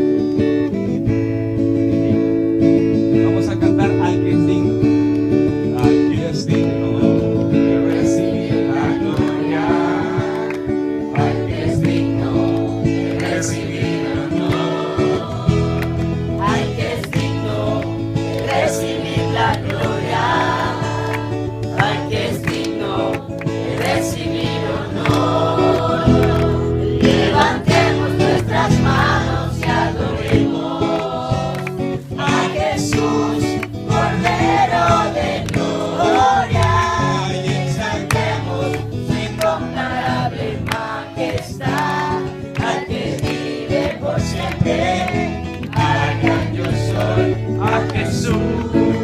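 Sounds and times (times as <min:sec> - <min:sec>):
group singing worship song: 0:06.2 - 0:49.0.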